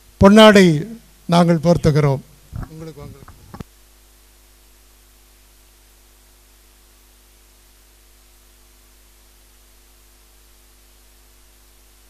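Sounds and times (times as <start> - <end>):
low electrical hum: 0.0 - 12.0
steady hiss: 0.0 - 12.0.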